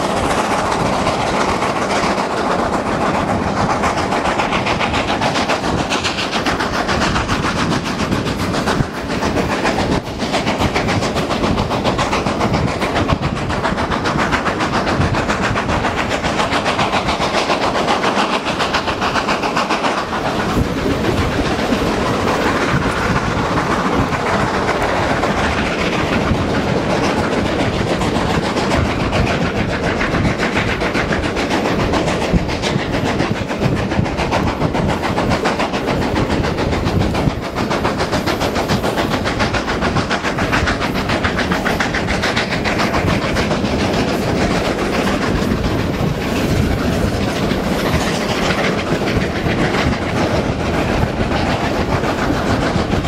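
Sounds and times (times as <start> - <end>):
carriage wheels on rails: 0.0 - 53.0
steam locomotives working hard: 0.0 - 53.0.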